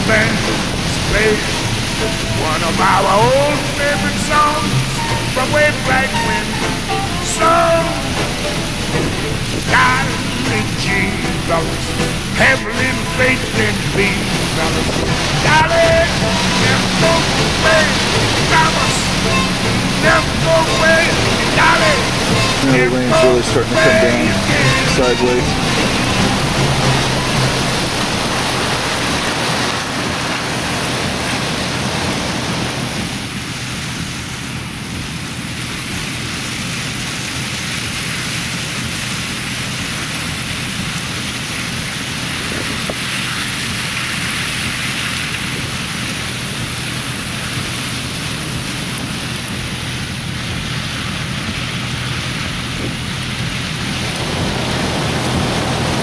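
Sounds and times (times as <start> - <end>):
heavy wind-driven rain: 0.0 - 56.0
hurricane wind: 0.0 - 56.0.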